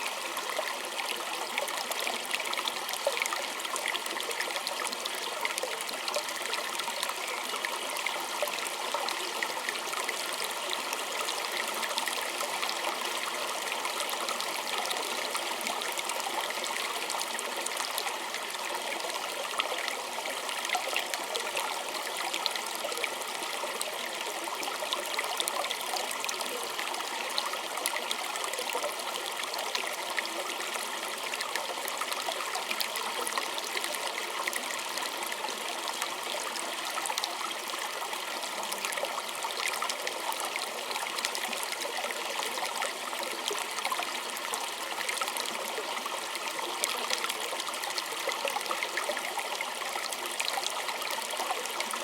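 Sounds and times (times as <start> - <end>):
stream running over stones: 0.0 - 52.0.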